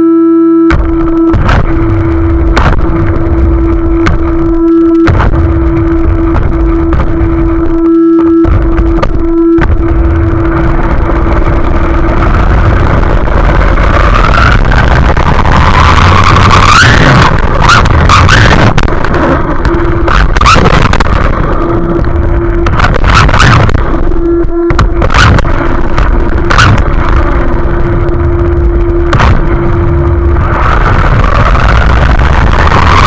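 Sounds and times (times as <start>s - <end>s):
motor whine rising: 0.0s - 33.0s.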